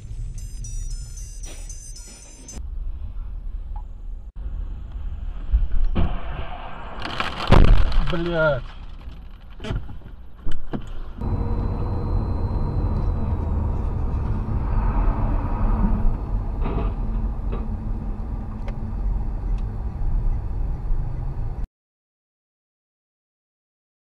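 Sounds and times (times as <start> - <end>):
car engine and road noise: 0.0 - 21.7.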